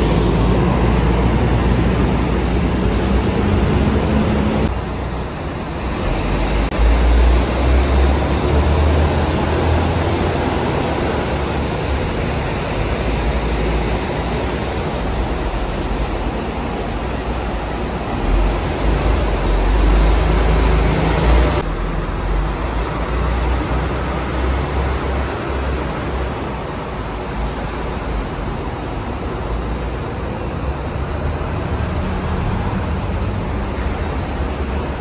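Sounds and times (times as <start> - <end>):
bus engines rumbling: 0.0 - 35.0
bus passing: 0.0 - 35.0
street traffic: 0.0 - 35.0.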